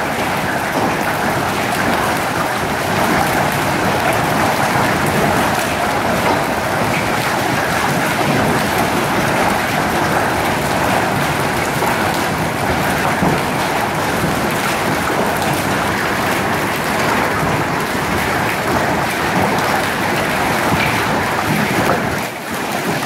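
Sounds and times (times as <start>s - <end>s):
hail and heavy rain on concrete: 0.0s - 23.0s.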